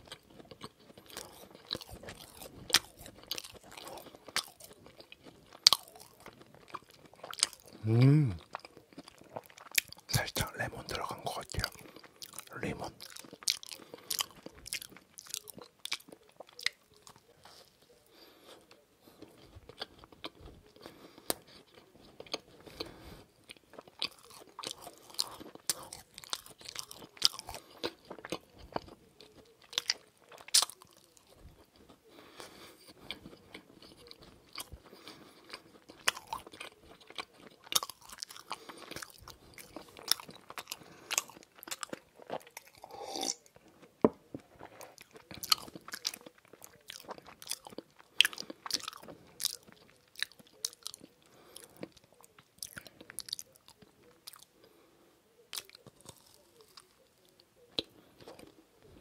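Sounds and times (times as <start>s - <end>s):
biting and chewing macaron: 0.0s - 59.0s.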